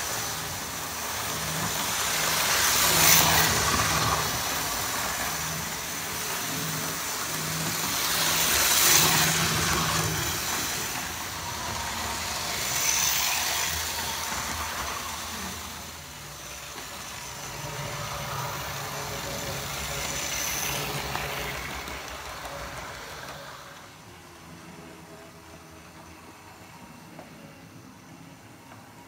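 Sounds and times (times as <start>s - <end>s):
model train motor whining: 0.0s - 24.0s.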